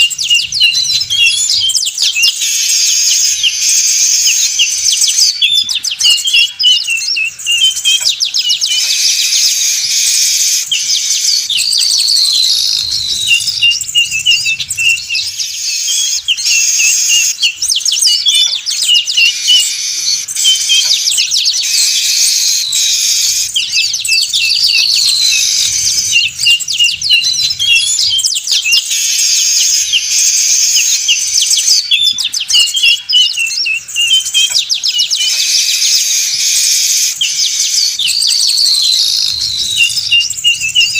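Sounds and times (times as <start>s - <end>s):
weaver birds chattering: 0.0s - 40.9s.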